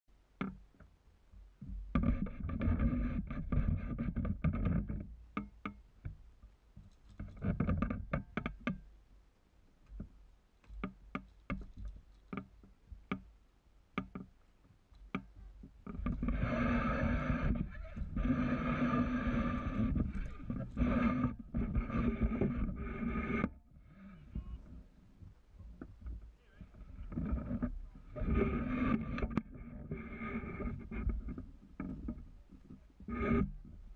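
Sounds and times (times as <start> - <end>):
climbing gear knocking on wood: 0.4 - 8.9, 9.9 - 23.6, 24.3 - 33.9
rough scraping on wooden pole: 1.6 - 6.2, 6.8 - 8.9, 9.9 - 13.3, 14.0 - 33.9.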